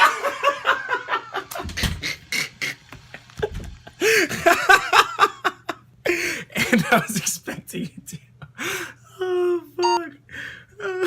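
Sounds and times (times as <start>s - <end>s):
man laughing in breathy bursts: 0.0s - 9.1s.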